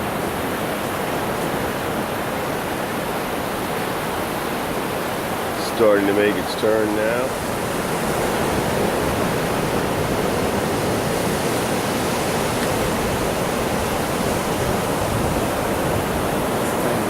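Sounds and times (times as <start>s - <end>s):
beach rushing noise: 0.0s - 17.0s.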